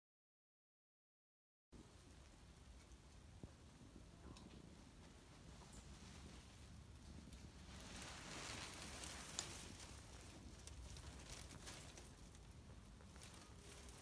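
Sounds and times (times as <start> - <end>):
faint crackling hiss: 1.8 - 14.0.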